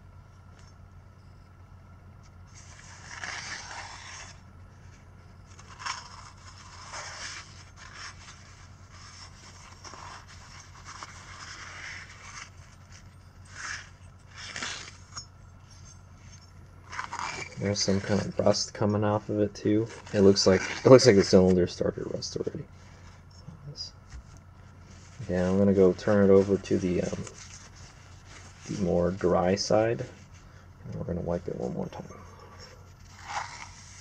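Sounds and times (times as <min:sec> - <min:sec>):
steady low hum: 0:00.0 - 0:34.0
tissue scraping inside cylinder: 0:02.4 - 0:34.0.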